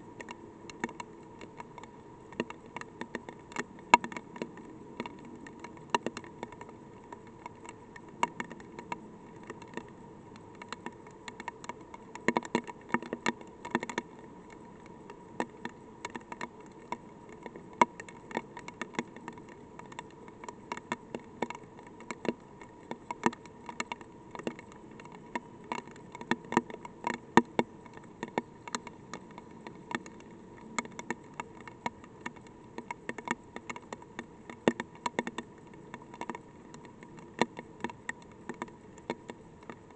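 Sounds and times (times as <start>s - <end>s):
raindrops tapping on probe: 0.0s - 39.9s
steady faint tone: 0.0s - 39.9s.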